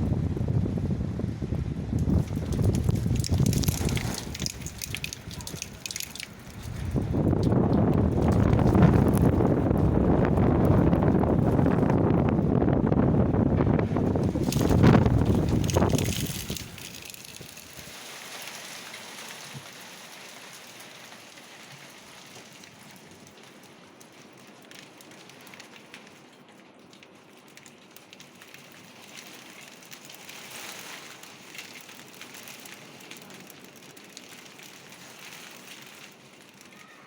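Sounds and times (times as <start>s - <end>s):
hail and snow hitting surfaces: 1.9s - 12.3s, 13.8s - 37.0s.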